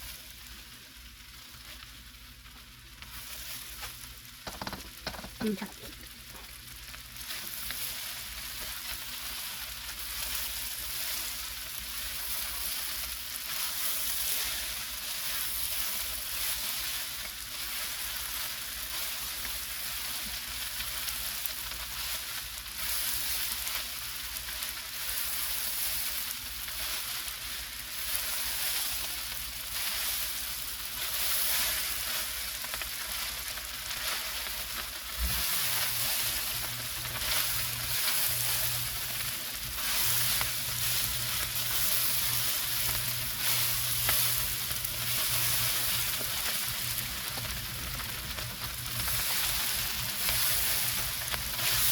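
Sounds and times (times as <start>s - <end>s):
rice sizzling in a pot: 0.0s - 51.9s.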